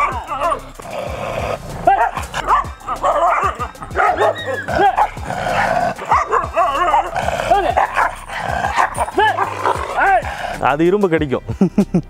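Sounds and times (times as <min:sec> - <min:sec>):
dog barking aggressively: 0:00.0 - 0:10.6.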